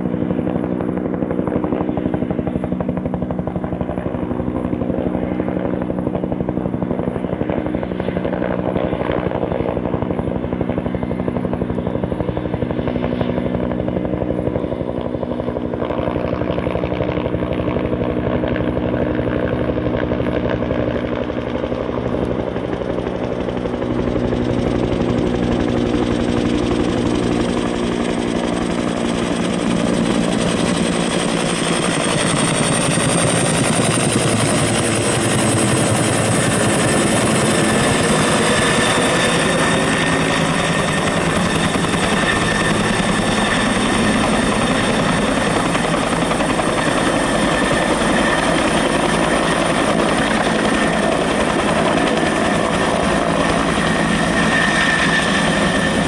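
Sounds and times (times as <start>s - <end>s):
helicopter rotor beat: 0.0s - 56.0s
high turbine whine: 9.2s - 56.0s.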